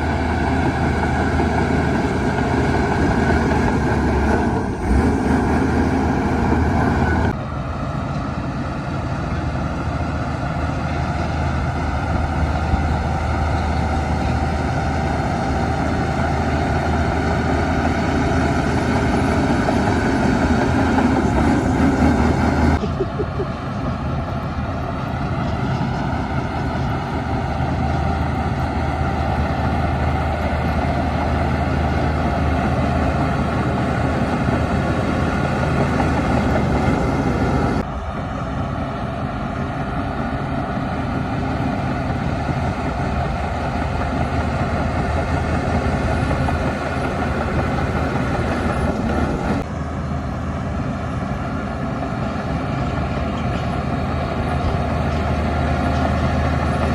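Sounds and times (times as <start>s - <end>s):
heavy diesel machinery running: 0.0s - 56.9s.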